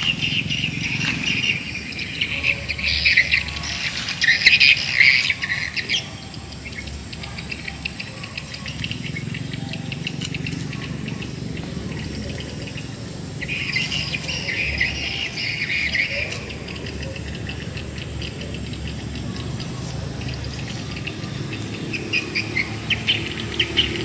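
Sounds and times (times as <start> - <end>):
birds chirping and chattering: 0.0 - 24.0
high-pitched insect drone: 0.0 - 24.0.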